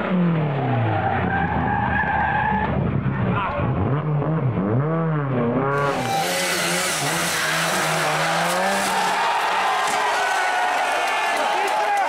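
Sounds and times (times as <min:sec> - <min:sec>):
rally car engine at high revs: 0:00.0 - 0:10.9
rally car engine revving: 0:00.0 - 0:11.3.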